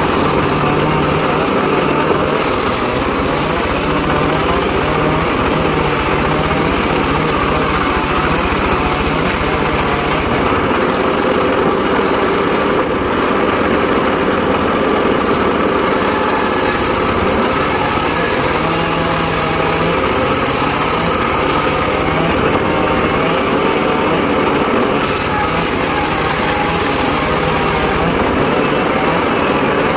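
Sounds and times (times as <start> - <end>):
circular saw cutting wood: 0.0 - 29.9.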